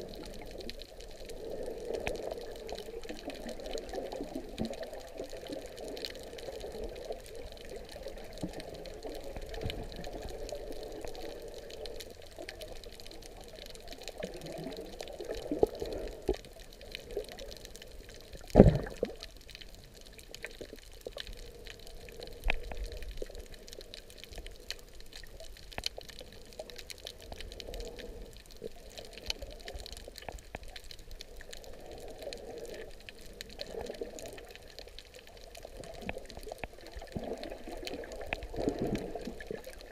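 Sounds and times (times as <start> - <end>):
faint crackling clicks: 0.0 - 39.9
muffled underwater sloshing: 0.0 - 39.9.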